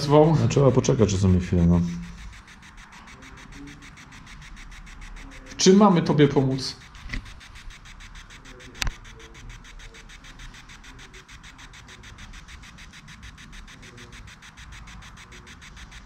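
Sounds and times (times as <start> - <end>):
rapid chopping of radio static: 0.0 - 16.0
sharp click: 0.0 - 16.0.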